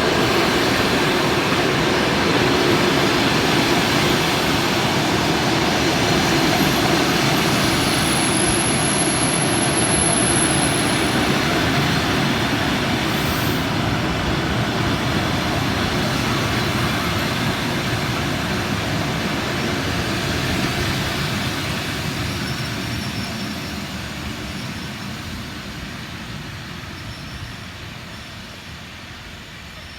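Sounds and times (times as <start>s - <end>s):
train wheels on rails: 0.0s - 29.9s.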